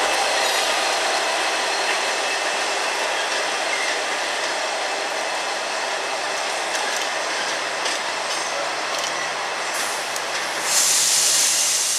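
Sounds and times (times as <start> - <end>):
diesel locomotive engine and rail noise: 0.0 - 11.9.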